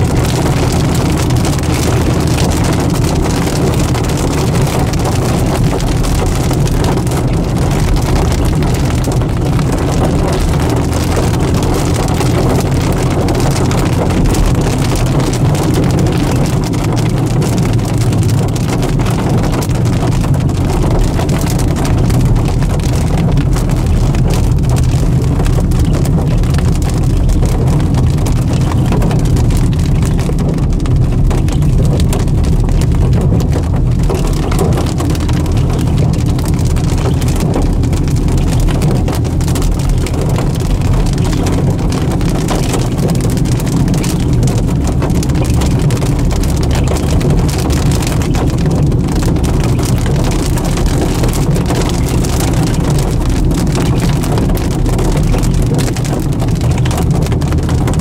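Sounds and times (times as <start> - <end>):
car engine and tyres rumbling: 0.0 - 58.0
raindrops hitting car: 0.0 - 58.0.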